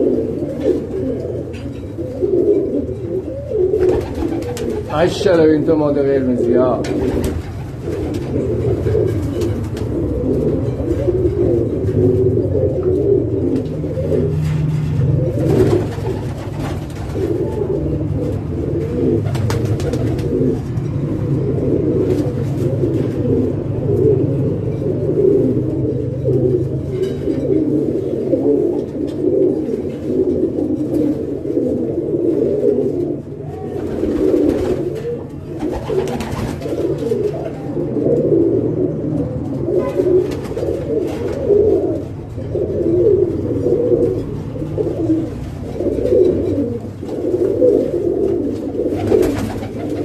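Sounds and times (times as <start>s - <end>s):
pigeons cooing: 0.0s - 50.0s.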